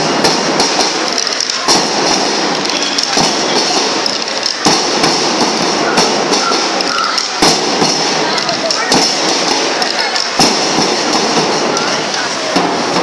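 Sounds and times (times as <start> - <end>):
side drums and cymbals: 0.0 - 13.0.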